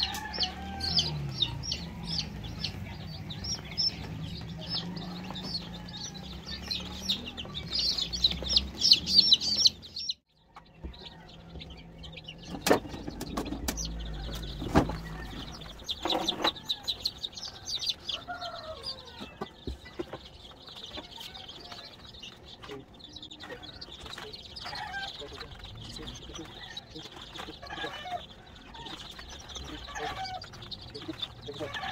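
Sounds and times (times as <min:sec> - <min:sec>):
chicks peeping: 0:00.0 - 0:31.9.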